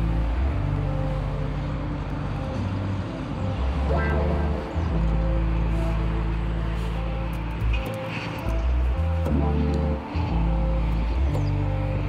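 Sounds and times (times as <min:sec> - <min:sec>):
music with held chords: 0:00.0 - 0:12.0.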